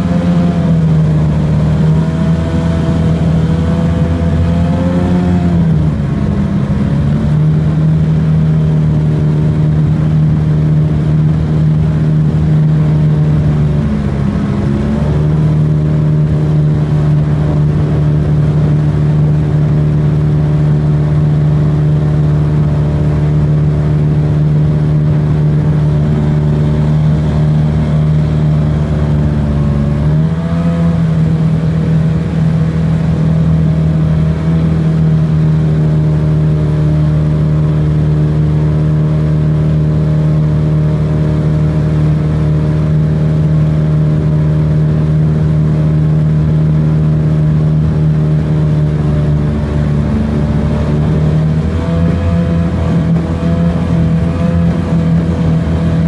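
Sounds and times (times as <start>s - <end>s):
outboard racing engine running: 0.0s - 56.0s.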